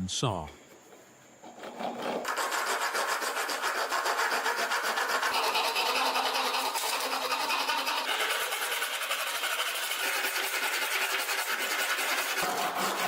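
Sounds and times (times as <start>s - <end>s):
hand saw rasping through wood: 1.4s - 13.0s.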